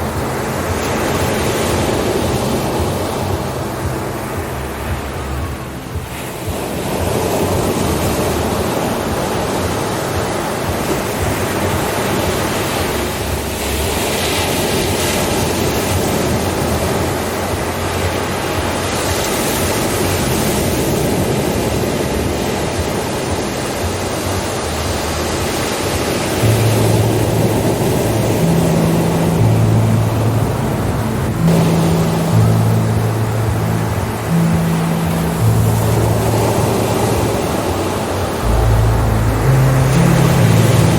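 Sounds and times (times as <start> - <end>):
low steady hum: 0.0 - 20.4, 26.4 - 40.9
steady rushing noise: 0.0 - 40.9.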